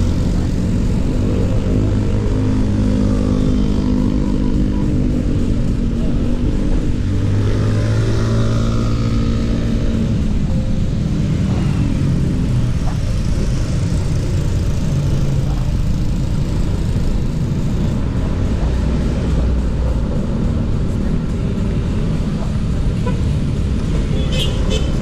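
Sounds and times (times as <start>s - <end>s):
motorcycle and car traffic: 0.0s - 25.0s.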